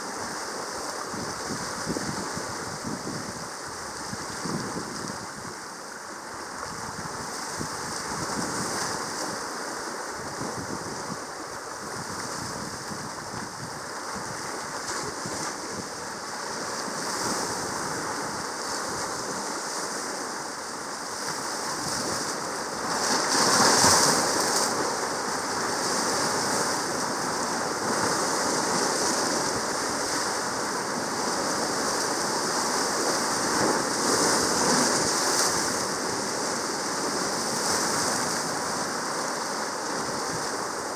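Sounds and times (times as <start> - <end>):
sea waves washing: 0.0 - 40.9.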